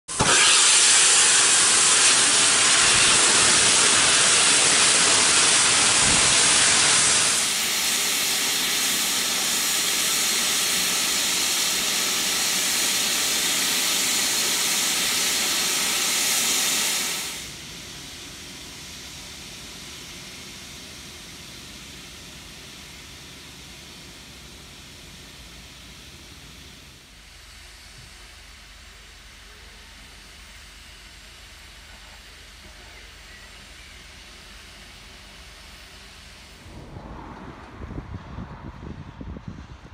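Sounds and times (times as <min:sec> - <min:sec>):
steam hissing: 0:00.1 - 0:36.7.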